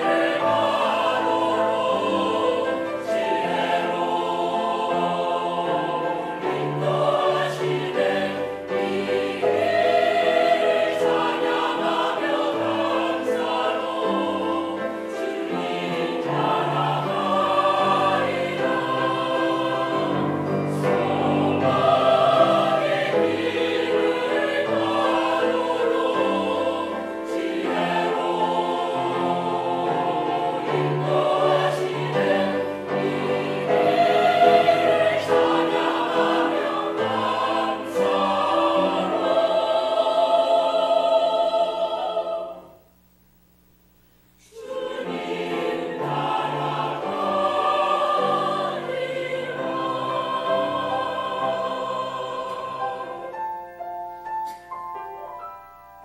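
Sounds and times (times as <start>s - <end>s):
choir singing a hymn: 0.0s - 42.8s, 44.4s - 55.6s.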